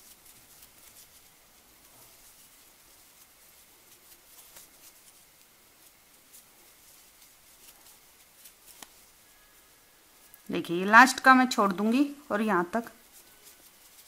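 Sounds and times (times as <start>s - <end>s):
crochet hook working yarn: 0.0s - 14.0s
quiet hiss: 0.0s - 14.0s.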